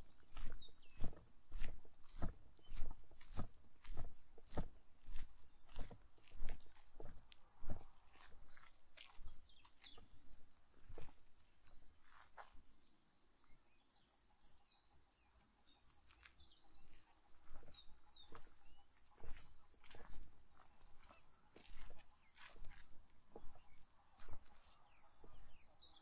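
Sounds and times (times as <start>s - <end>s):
footsteps on a path: 0.0s - 12.7s, 16.1s - 26.0s
small birds chirping: 0.0s - 26.0s.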